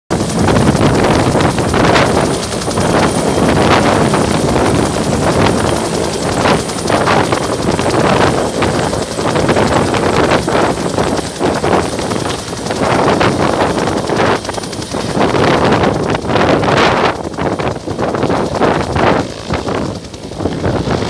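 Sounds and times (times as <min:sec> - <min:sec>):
helicopter rotor and engine noise: 0:00.1 - 0:21.0.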